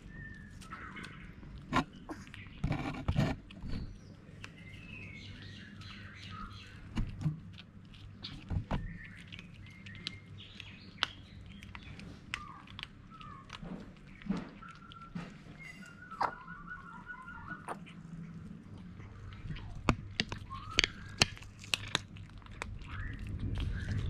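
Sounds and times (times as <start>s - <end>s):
cats crunching dry kibble: 0.0s - 24.0s
small birds chirping: 0.0s - 24.0s.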